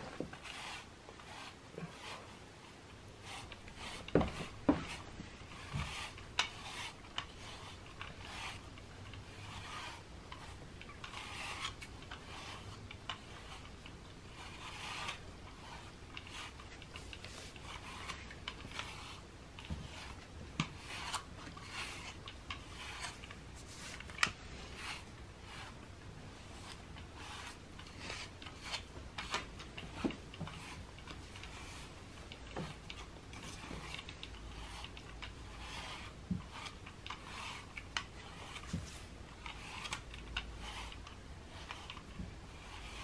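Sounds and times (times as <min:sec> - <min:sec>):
bristles brushing cat fur: 0:00.0 - 0:43.0.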